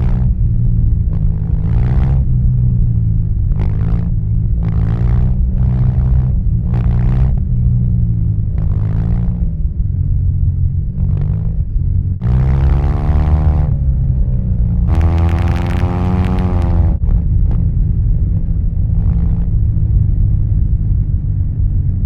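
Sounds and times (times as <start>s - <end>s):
motorcycle engine deep rumble: 0.0s - 22.0s.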